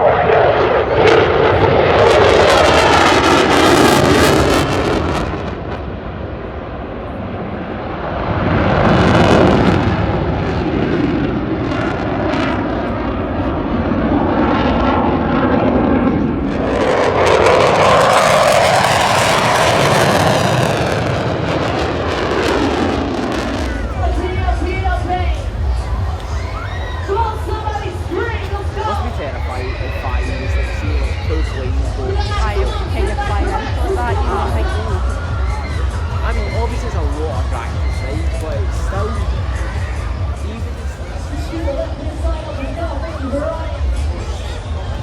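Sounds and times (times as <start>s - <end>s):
aircraft engine flying past: 0.0s - 45.0s.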